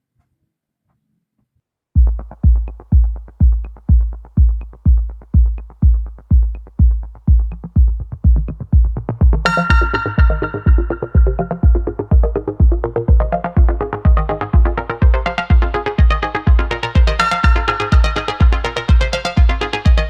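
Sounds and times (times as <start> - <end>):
electronic music: 2.0 - 20.0
heavy kick drum: 2.0 - 20.0.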